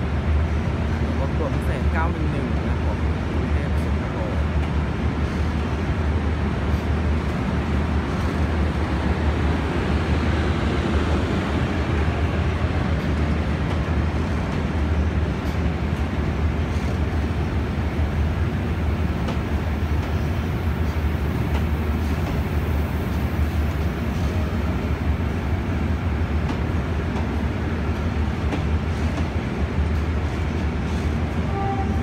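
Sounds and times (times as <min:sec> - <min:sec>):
passenger train rolling slowly: 0:00.0 - 0:32.0.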